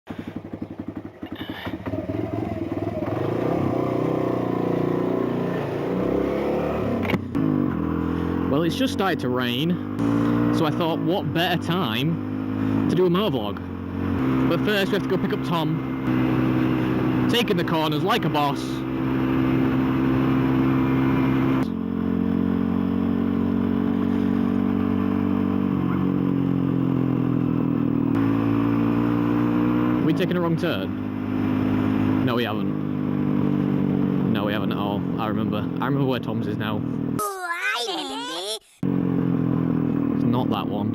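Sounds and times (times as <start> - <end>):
motorcycle engine revving: 0.1 - 37.2, 38.8 - 40.9.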